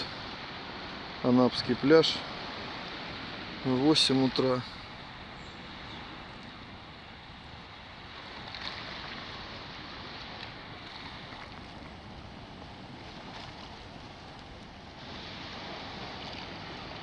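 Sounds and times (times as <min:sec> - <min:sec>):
small waves on sand beach: 0:00.0 - 0:17.0
wind noise on microphone: 0:00.0 - 0:17.0.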